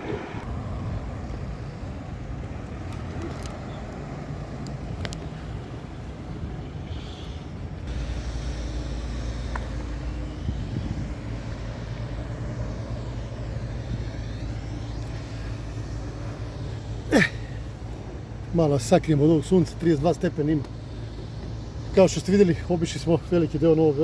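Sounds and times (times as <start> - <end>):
street traffic: 0.0 - 24.0
vehicle engine rumbling: 0.0 - 24.0.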